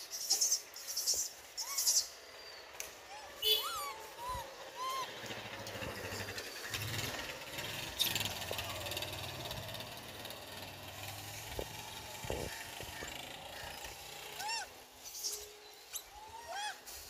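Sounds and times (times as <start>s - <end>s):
low engine hum: 2.2s - 16.4s.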